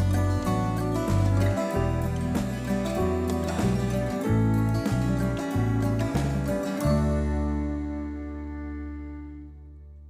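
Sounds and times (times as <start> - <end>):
instrumental music with strong bass: 0.0 - 10.0.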